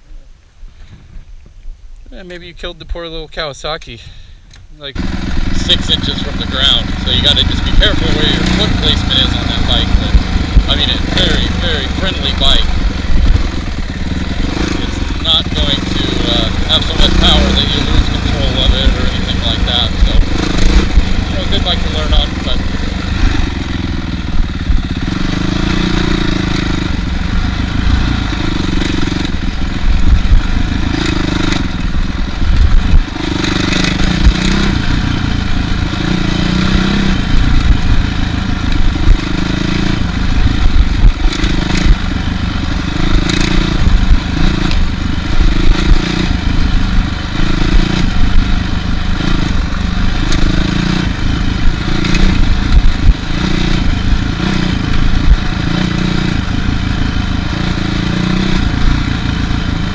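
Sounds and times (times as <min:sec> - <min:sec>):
dirt bike engine revving: 0:04.9 - 0:59.9.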